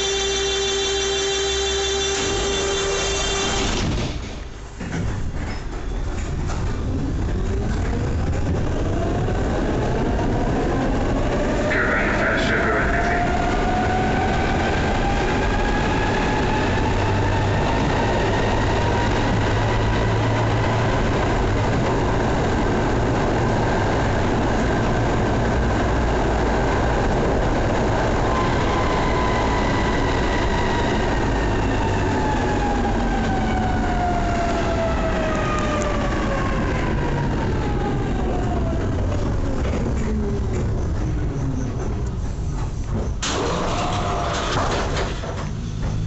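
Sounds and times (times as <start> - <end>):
tram motors whining: 0.0 - 46.0
wheels rumbling on rail: 0.0 - 46.0.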